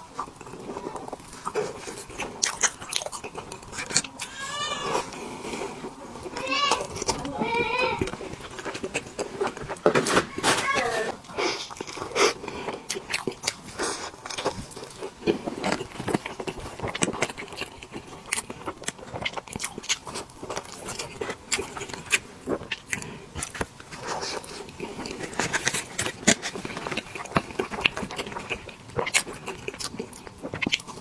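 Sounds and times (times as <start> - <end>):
chewing with wet mouth clicks: 0.0 - 4.4, 8.0 - 9.8, 11.3 - 31.0.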